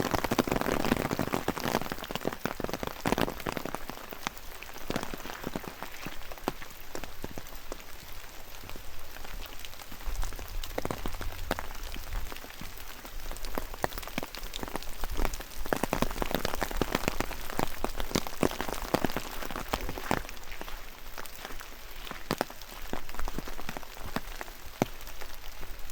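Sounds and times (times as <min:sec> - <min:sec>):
rain pattering: 0:00.0 - 0:25.9.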